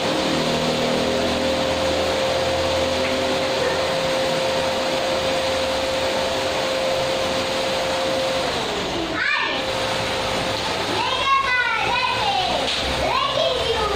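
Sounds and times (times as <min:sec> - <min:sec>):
vacuum cleaner running: 0:00.0 - 0:13.9.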